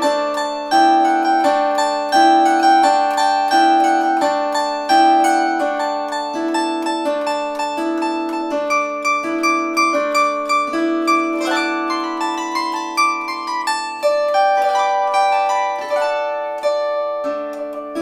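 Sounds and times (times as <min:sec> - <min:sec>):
plucked psaltery melody: 0:00.0 - 0:18.0.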